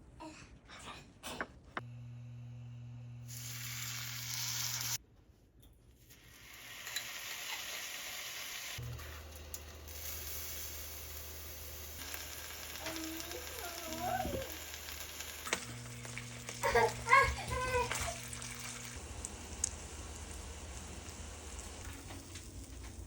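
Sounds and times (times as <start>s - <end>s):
food sizzling in a pan: 3.2s - 5.0s, 6.1s - 23.0s.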